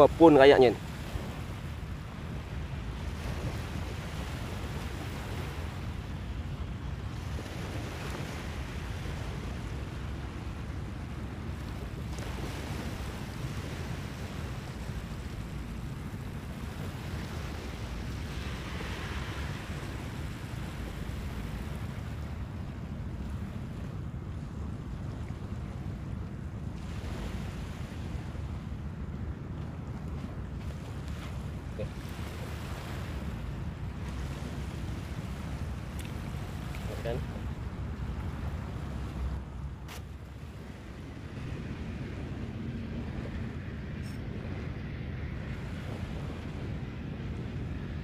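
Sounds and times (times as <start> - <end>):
small waves washing onto sand: 0.0 - 48.0
wind rumble on microphone: 0.0 - 48.0.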